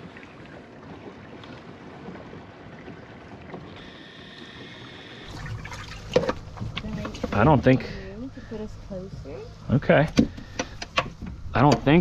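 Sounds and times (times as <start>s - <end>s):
water around boat: 0.0s - 12.0s
wind: 0.0s - 12.0s.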